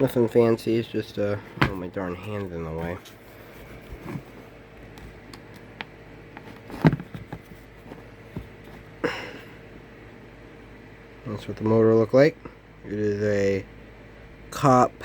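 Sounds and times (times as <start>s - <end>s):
box fan humming: 0.0s - 15.0s.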